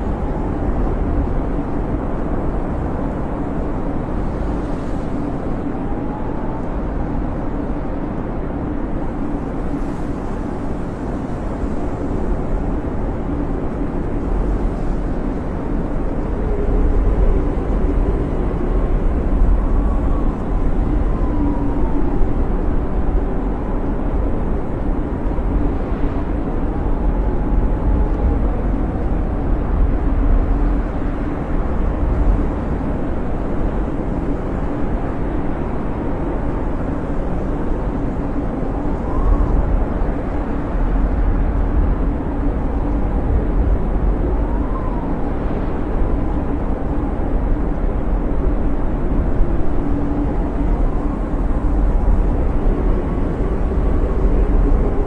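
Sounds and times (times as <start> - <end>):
whistling wind howls: 0.0 - 55.0
wind blowing with low rumble: 0.0 - 55.0.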